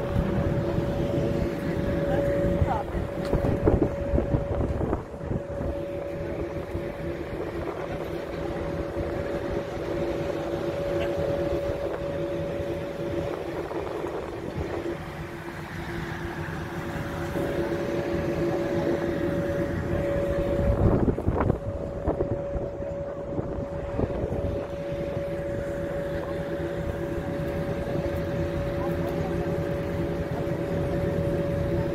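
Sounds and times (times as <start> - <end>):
bus engine idling: 0.0 - 31.9
wind buffeting microphone: 0.0 - 31.9.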